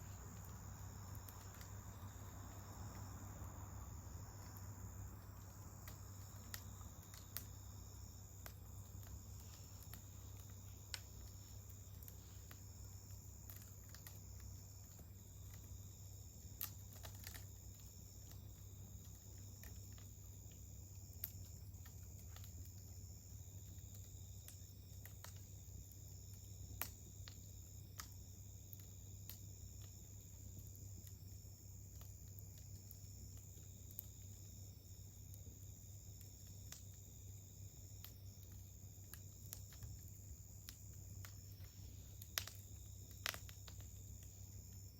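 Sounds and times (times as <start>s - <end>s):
campfire crackling and popping: 0.0s - 44.9s
crickets trilling: 0.0s - 44.9s.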